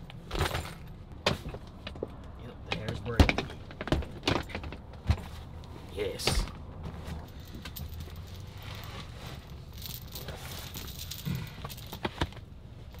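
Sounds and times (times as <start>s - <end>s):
clothing and seat rustling: 0.0s - 13.0s.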